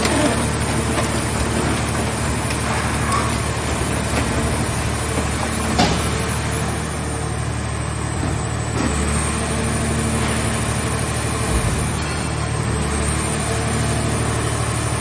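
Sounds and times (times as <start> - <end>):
hydraulic power unit droning: 0.0 - 15.0.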